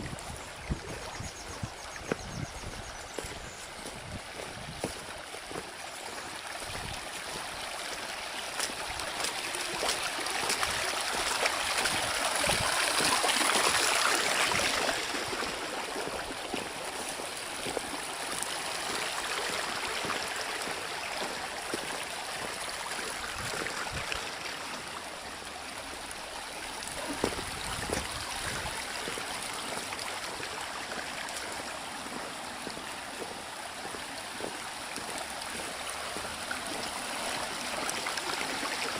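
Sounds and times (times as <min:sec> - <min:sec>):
rainwater rushing and gurgling: 0:00.0 - 0:38.9.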